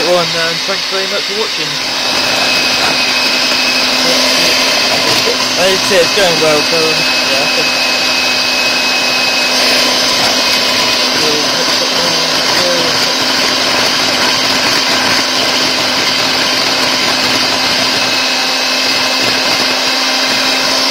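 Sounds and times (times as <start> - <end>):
electric hand mixer whisking batter: 0.0 - 20.9.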